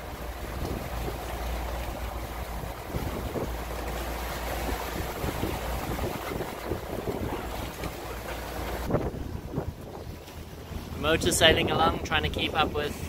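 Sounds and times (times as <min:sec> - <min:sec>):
waves washing past hull: 0:00.0 - 0:13.0
wind gusting over microphone: 0:02.1 - 0:13.0.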